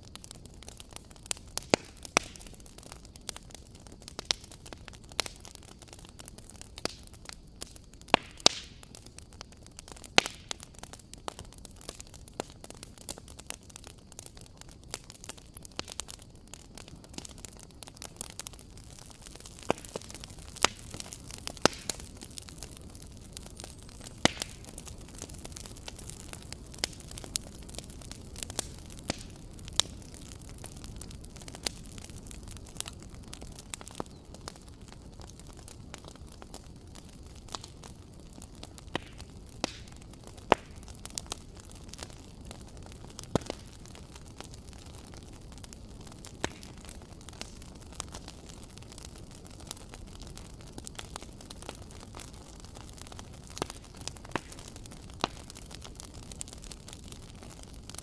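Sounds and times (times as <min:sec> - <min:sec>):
fire crackling in fireplace: 0:00.0 - 0:58.0.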